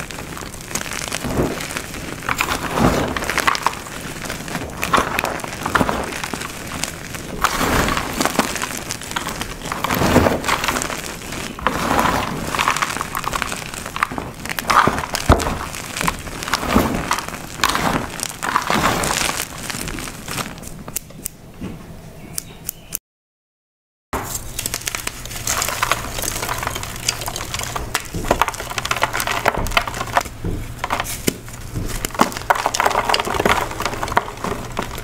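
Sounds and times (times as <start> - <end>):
chalk crunching: 0.0 - 20.8, 24.2 - 35.0.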